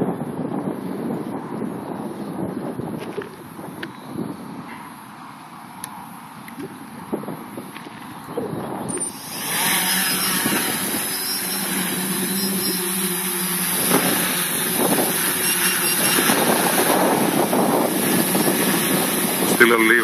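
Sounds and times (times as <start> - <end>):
drone motors humming whine: 0.0 - 20.0.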